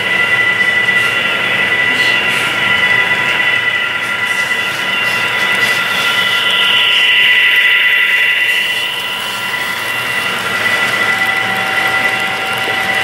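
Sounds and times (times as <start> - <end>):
model train mechanical whine: 0.0 - 13.0.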